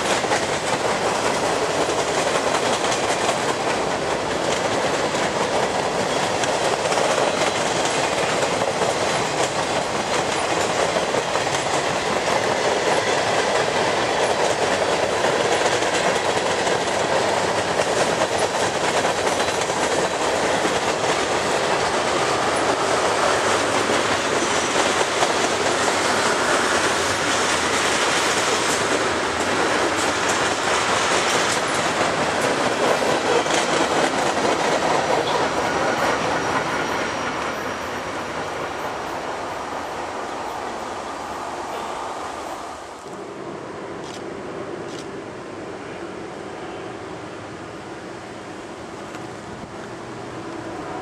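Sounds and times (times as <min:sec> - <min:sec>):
steel wheels running on rails: 0:00.0 - 0:42.4.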